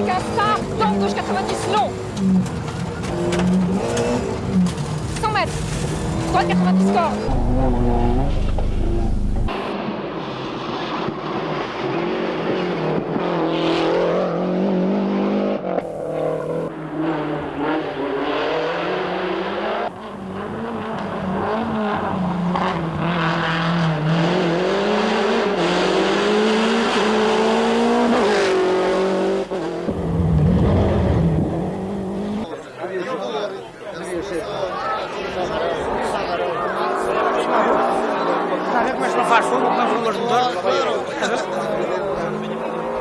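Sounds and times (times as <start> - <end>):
rally car engine revving: 0.0 - 32.5, 36.5 - 43.0.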